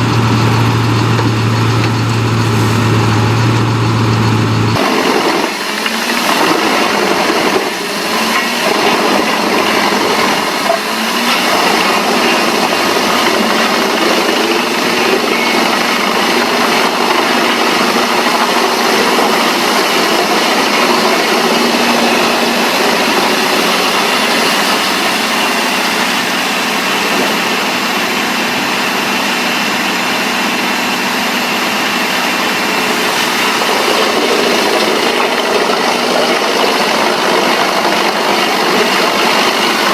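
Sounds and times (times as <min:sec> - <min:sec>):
wood-processing machine running: 0:00.0 - 0:39.9.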